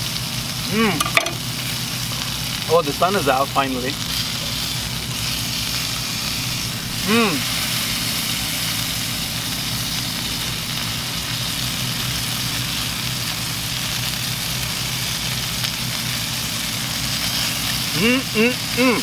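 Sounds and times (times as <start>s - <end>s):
low engine hum: 0.0s - 19.0s
meat sizzling in a skillet: 0.0s - 19.0s.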